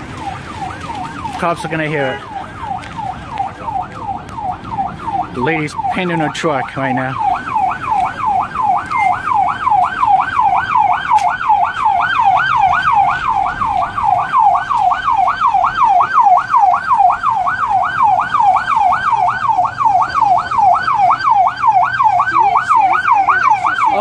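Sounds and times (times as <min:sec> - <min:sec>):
emergency siren in fast yelp: 0:00.0 - 0:24.0.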